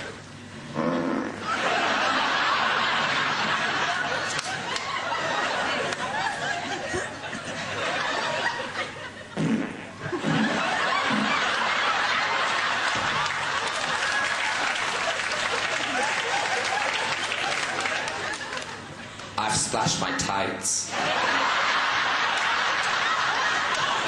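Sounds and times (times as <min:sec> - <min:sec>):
audience laughing: 0:01.4 - 0:19.2, 0:20.9 - 0:24.0.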